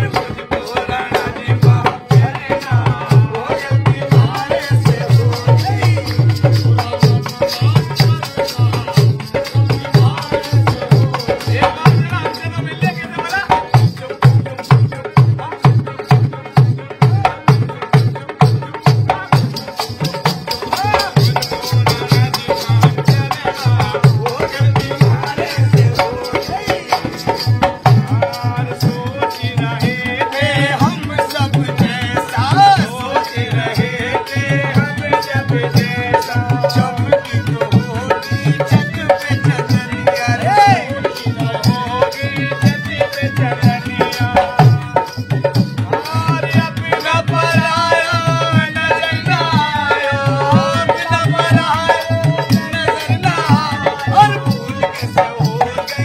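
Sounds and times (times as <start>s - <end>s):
hand drum beat: 0.0s - 56.0s
harmonium melody: 0.0s - 56.0s.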